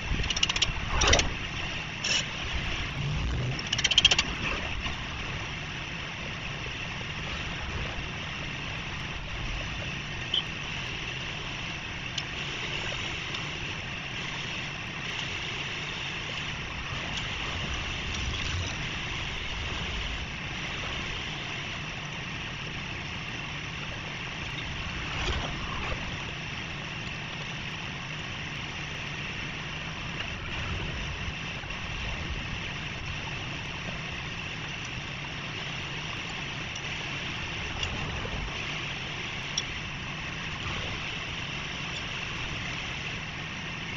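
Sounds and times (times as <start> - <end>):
low traffic rumble: 0.0 - 43.9.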